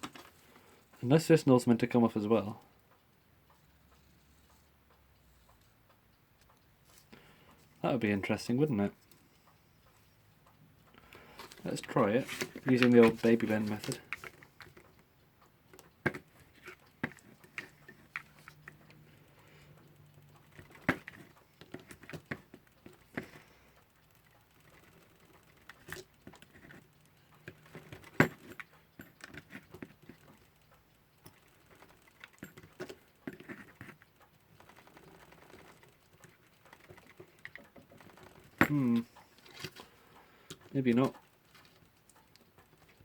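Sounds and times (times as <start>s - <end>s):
metal tools clicking on clock: 0.9s - 43.0s.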